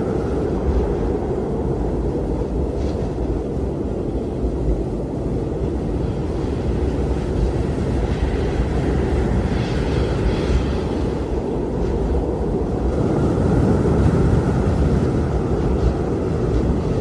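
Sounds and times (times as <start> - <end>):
hissing wind gust: 0.0 - 17.0
storm wind rumbling: 0.0 - 17.0.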